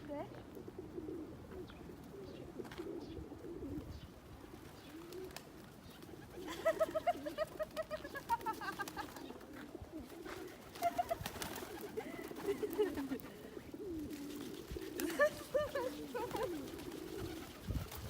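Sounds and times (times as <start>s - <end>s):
pigeons cooing: 0.3s - 18.0s.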